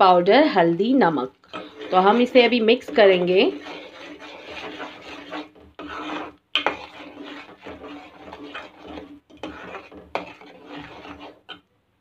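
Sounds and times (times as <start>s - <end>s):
spoon scraping paste in pan: 0.0s - 11.7s.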